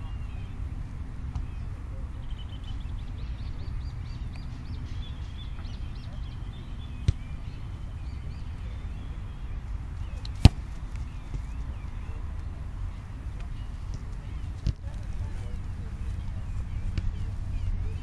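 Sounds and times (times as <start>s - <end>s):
birds chirping: 0.0s - 18.0s
wind rumble on microphone: 0.0s - 18.0s.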